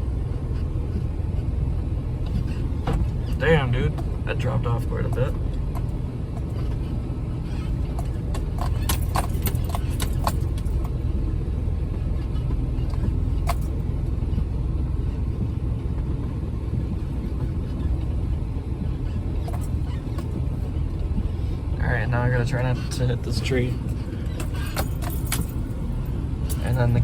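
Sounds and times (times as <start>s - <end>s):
off-road vehicle rumbling: 0.0s - 27.0s.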